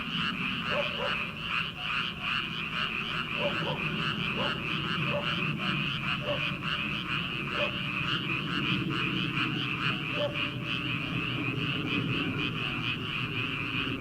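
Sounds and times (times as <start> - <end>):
frog chorus trilling: 0.0 - 14.0
low frog croak: 0.0 - 14.0.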